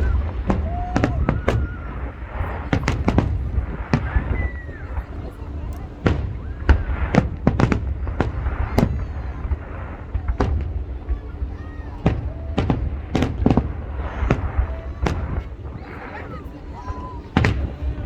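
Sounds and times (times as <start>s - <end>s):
continuous low rumble: 0.0s - 18.0s
fireworks bangs: 0.0s - 18.0s.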